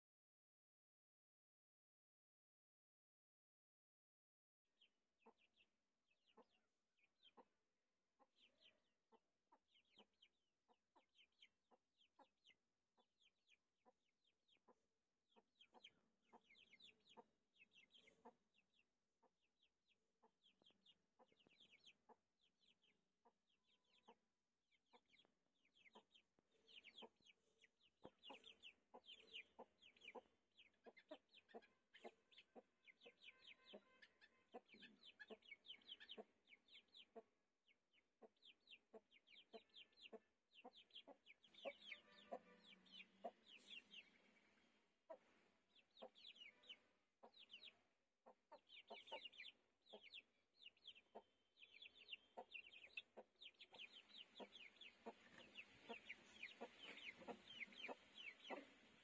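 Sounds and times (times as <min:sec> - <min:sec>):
chicks peeping: 0:05.2 - 0:05.6, 0:06.2 - 0:06.6, 0:07.2 - 0:07.5, 0:08.2 - 0:24.2, 0:24.9 - 0:37.2, 0:38.2 - 0:59.0
chicken clucks: 0:06.2 - 0:07.6, 0:08.2 - 0:24.2, 0:24.9 - 0:37.3, 0:38.2 - 0:59.0.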